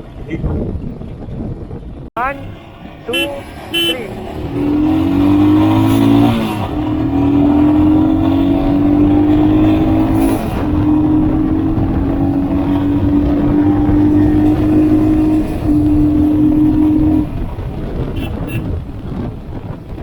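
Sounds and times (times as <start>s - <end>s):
wind rushing over microphone: 0.0s - 20.0s
motorcycle engine accelerating: 0.6s - 20.0s.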